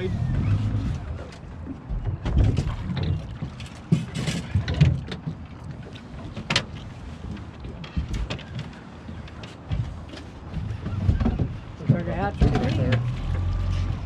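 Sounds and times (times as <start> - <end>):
wind rumbling on microphone: 0.0 - 14.0
fishing gear knocks and clicks: 1.2 - 14.0.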